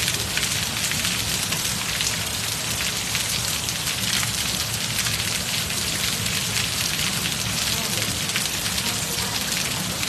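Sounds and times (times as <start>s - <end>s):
heavy rain on paving: 0.0s - 10.0s.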